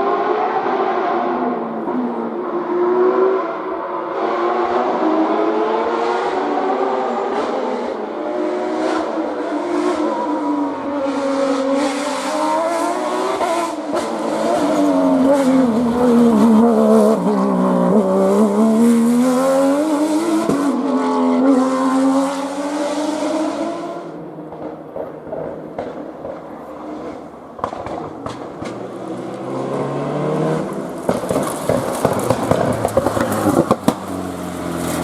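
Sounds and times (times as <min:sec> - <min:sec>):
rally car engine revving: 0:00.0 - 0:35.0.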